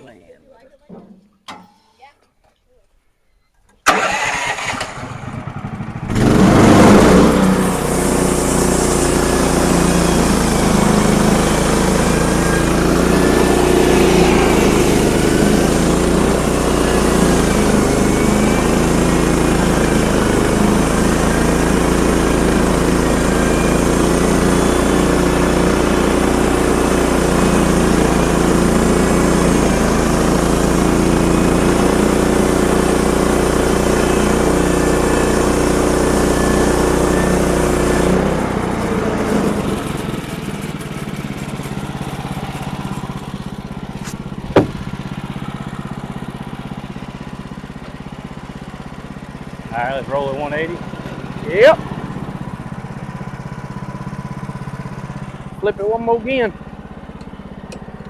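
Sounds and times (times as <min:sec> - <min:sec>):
sawmill engine running: 0:03.8 - 0:58.0.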